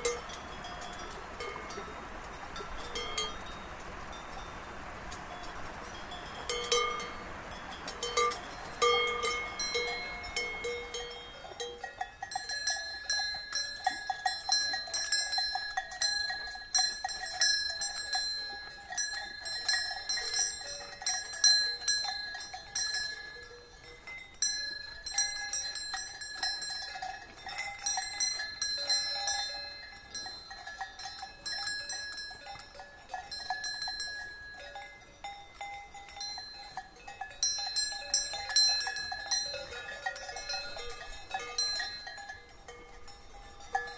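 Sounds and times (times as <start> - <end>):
cowbell clanking: 0.0 - 43.9.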